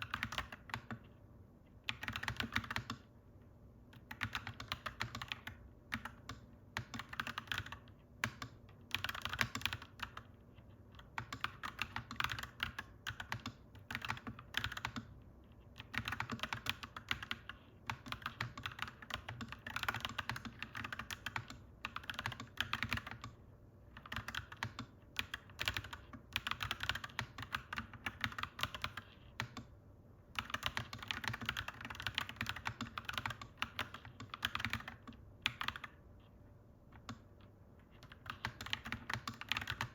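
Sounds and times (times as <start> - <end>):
mechanical keyboard typing: 0.0 - 1.2, 1.8 - 3.1, 3.9 - 29.7, 30.3 - 36.0, 36.9 - 39.9.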